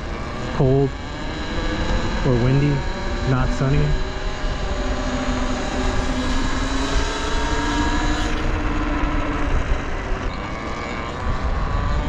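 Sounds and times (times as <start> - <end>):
electric motorbike motor whining: 0.0 - 12.0
wind rumble on microphone: 0.0 - 12.0.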